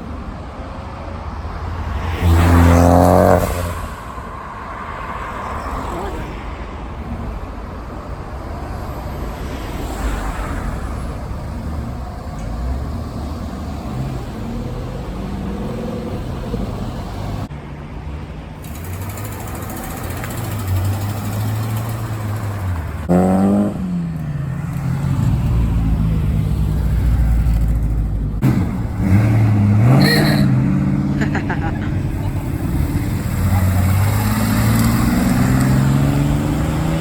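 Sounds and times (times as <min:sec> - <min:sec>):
cars driving slowly past: 0:00.0 - 0:37.0.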